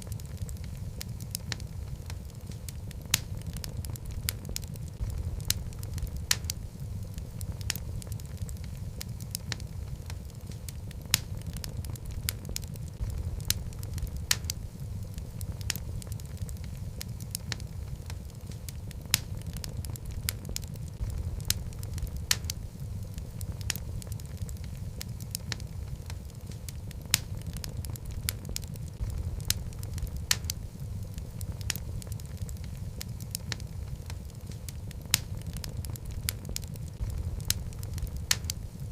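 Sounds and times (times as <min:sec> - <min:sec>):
fire rumbling: 0:00.0 - 0:38.9
wood crackling and popping: 0:00.0 - 0:38.9.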